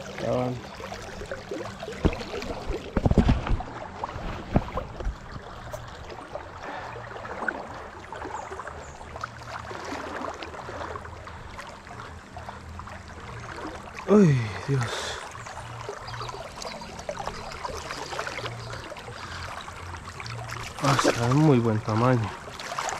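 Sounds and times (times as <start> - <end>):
river water splashing: 0.0 - 22.9.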